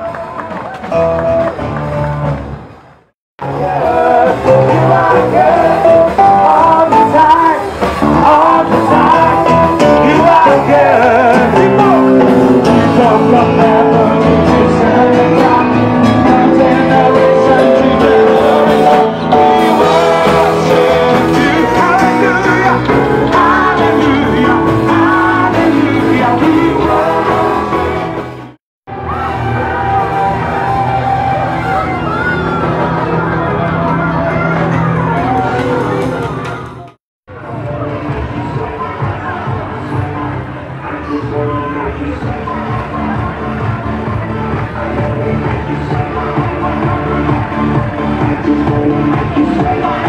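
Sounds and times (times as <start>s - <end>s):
song with singing and guitar: 3.4s - 36.6s, 37.7s - 50.0s.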